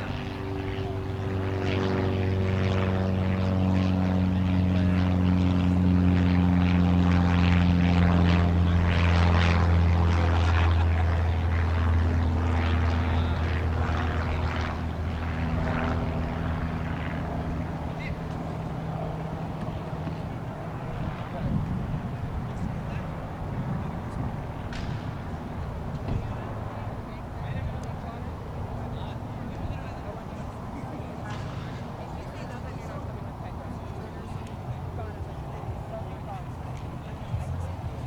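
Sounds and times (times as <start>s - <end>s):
propeller aircraft engine drone: 0.0s - 38.0s.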